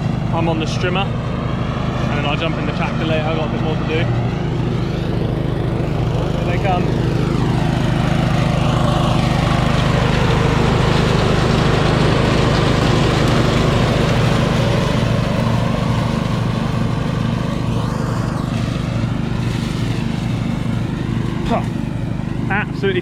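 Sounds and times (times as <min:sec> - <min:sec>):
ride-on lawn mower running: 0:00.0 - 0:23.0.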